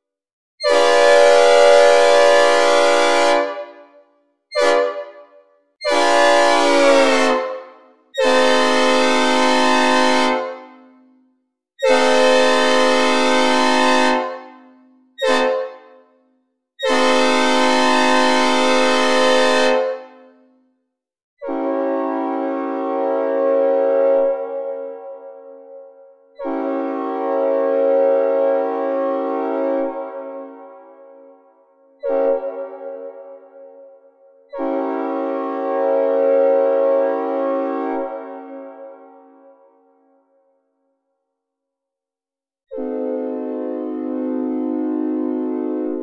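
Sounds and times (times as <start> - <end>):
synthesized train horn blasts: 0.6 - 16.2, 16.8 - 20.6, 21.4 - 40.1, 42.7 - 46.0.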